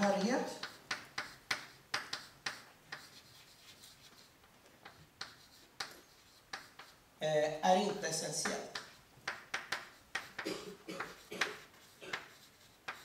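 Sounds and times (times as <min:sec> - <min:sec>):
chalk tapping and scratching: 0:00.0 - 0:07.0, 0:07.8 - 0:13.0.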